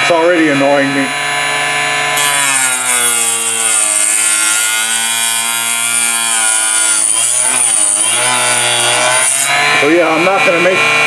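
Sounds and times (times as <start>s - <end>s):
cut-off saw cutting rod: 0.0s - 11.0s.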